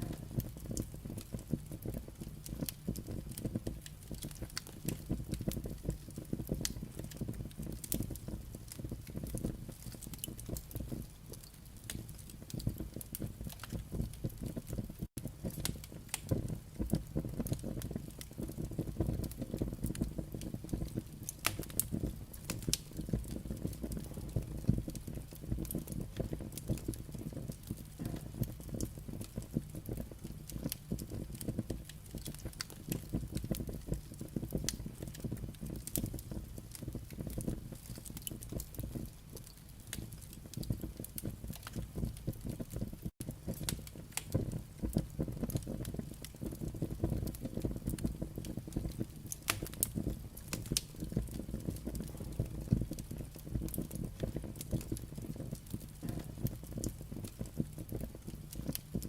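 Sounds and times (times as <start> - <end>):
firewood crackling and popping: 0.0 - 59.0.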